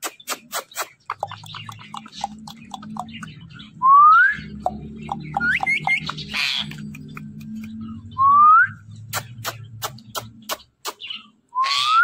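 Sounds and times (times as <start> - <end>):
parakeet clicks and chirps: 0.0 - 3.7, 4.4 - 8.1, 9.0 - 11.3.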